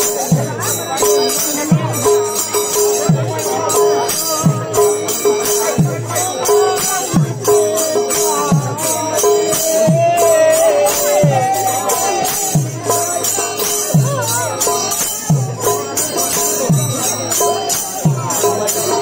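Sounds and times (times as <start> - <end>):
jingling cymbal strokes: 0.0 - 19.0.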